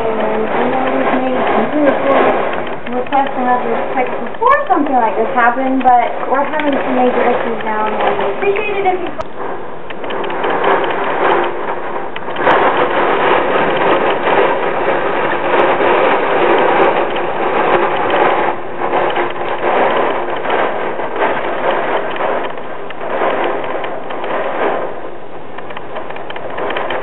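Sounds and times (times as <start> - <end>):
rain beating against a window: 0.0 - 27.0.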